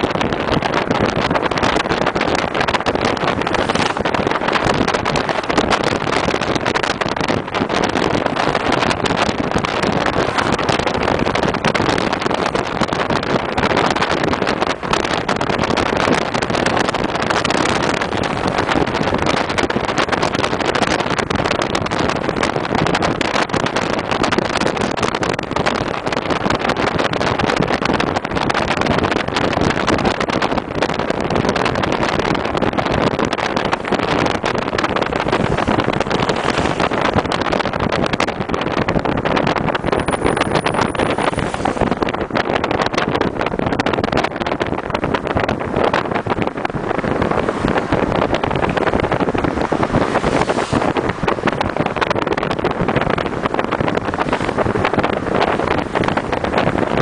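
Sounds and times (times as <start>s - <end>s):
wind and road noise: 0.0s - 57.0s
wind buffeting microphone: 0.0s - 57.0s.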